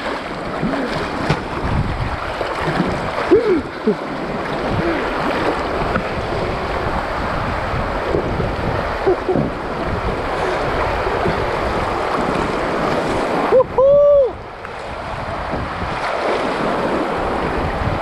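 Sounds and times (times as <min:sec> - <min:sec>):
river water flowing and splashing: 0:00.0 - 0:18.0
wind buffeting microphone: 0:00.0 - 0:18.0.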